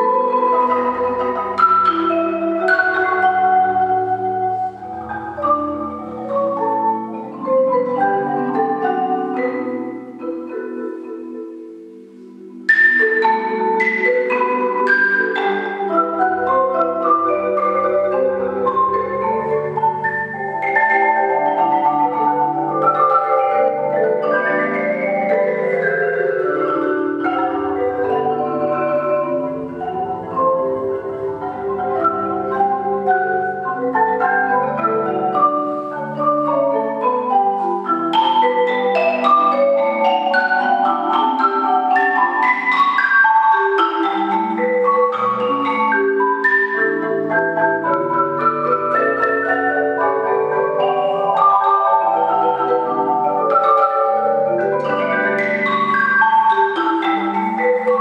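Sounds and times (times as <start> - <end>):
marimba ensemble playing: 0.0 - 58.0.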